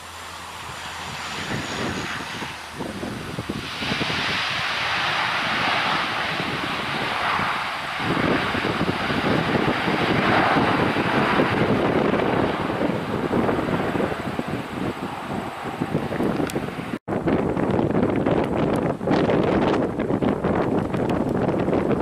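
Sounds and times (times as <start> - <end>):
turboprop engines droning: 0.0 - 22.0
wind buffeting microphone: 0.0 - 22.0.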